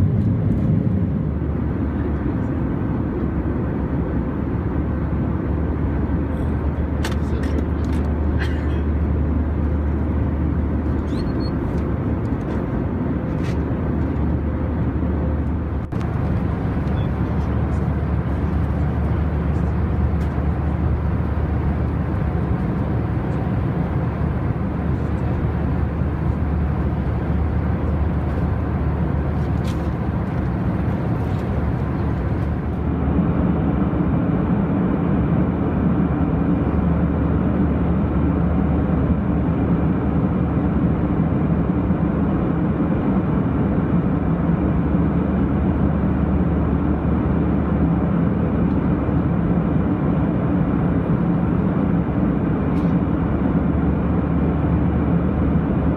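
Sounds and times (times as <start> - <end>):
airplane cabin drone: 0.0 - 55.9.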